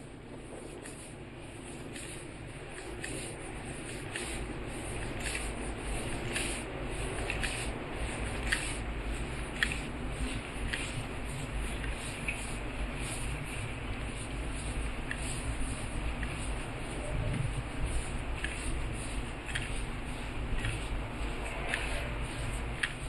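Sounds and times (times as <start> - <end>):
footsteps on pavement: 0.0 - 23.0
low steady rumble: 0.0 - 23.0.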